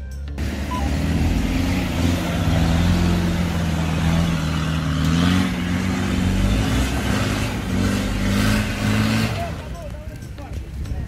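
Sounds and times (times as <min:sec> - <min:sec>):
engine pulling under load: 0:00.4 - 0:10.3.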